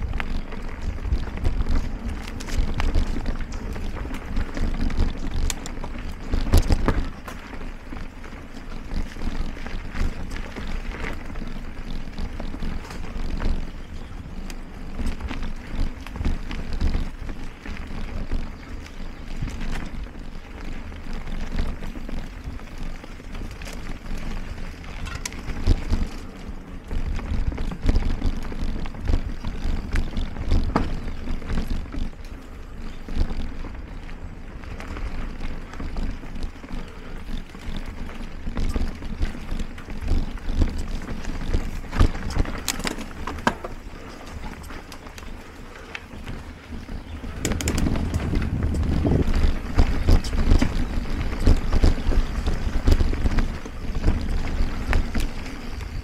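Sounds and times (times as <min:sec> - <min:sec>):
bike knocking and rattling: 0:00.0 - 0:56.0
bike tyres rumbling on dirt: 0:00.0 - 0:56.0.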